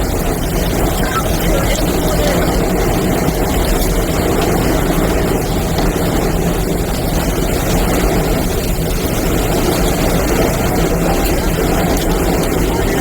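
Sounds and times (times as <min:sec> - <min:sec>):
tornado winds rushing around vehicle: 0:00.0 - 0:13.0.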